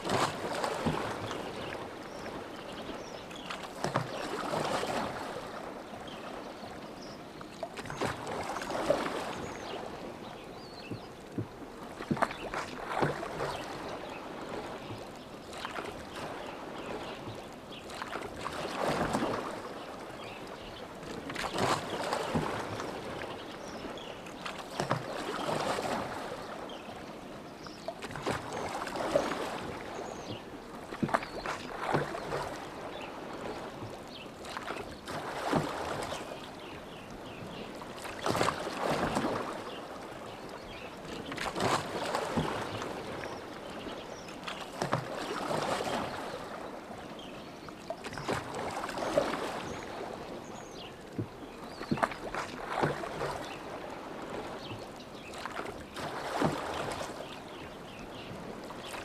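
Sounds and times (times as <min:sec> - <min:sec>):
oars splashing through water: 0:00.0 - 0:59.0.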